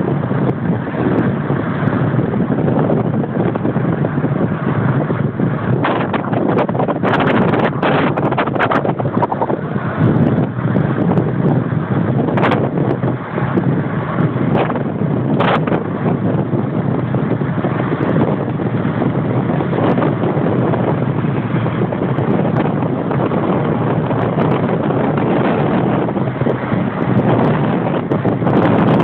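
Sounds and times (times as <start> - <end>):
car engine noise: 0.0 - 29.0
tyres rumbling on rough tarmac: 0.0 - 29.0
wind noise: 0.0 - 29.0.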